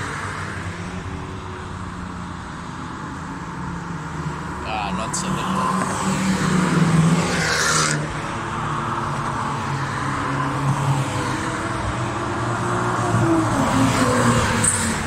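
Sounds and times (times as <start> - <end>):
cars driving past: 0.0 - 15.0.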